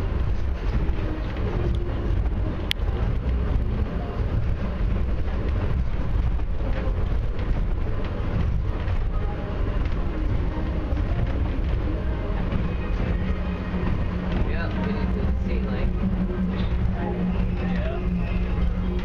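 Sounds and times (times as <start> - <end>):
train rumbling inside car: 0.0 - 19.0.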